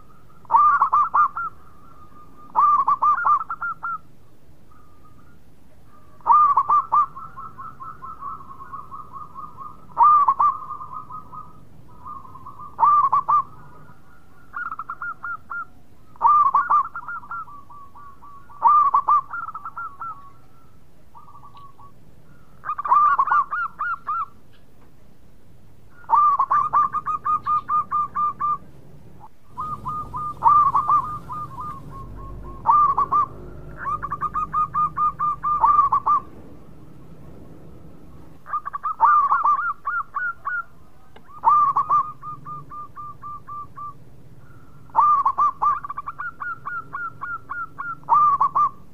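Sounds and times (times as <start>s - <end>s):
dove cooing: 0.0s - 4.1s, 4.7s - 24.4s, 25.9s - 48.9s.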